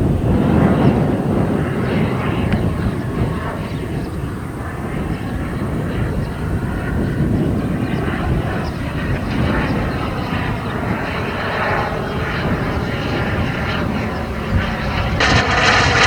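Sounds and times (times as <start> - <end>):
model jet turbine engine running: 0.0 - 16.0.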